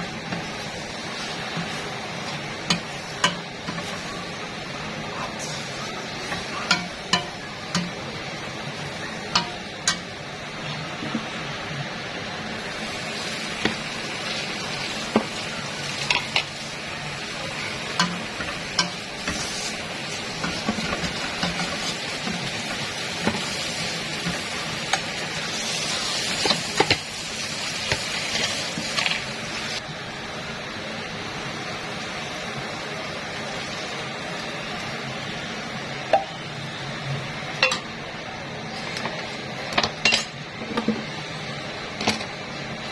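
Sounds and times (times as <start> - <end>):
food sizzling in a pan: 0.0 - 38.0.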